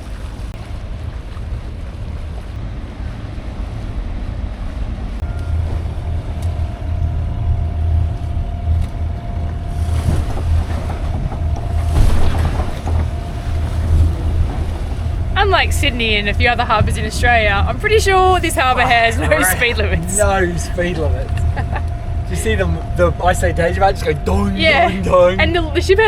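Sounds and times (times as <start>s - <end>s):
water splashing: 0.0s - 7.3s, 7.9s - 26.0s
faint steady whine: 0.0s - 26.0s
water rushing along hull: 0.0s - 26.0s
wind buffeting microphone: 0.0s - 26.0s.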